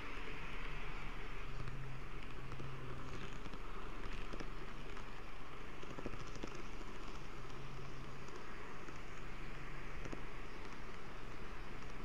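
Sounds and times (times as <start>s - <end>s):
model train whirring: 0.0s - 12.0s.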